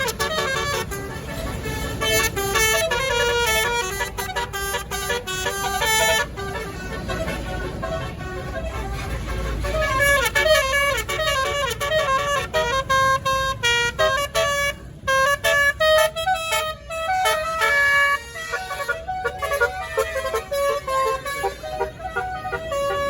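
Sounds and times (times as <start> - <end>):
low vehicle rumble: 0.0 - 23.0
multi-tone air horn tune: 0.0 - 23.0.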